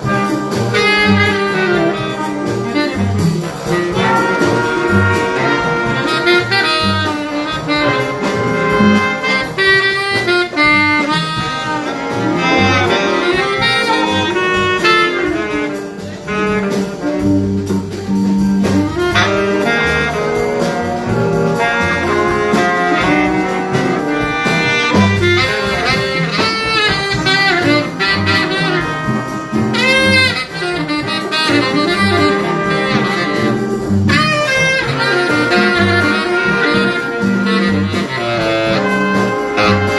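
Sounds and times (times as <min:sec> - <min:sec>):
jazz big band playing: 0:00.0 - 0:39.9
low bass notes: 0:00.0 - 0:39.9
saxophones and brass melody: 0:00.0 - 0:39.9.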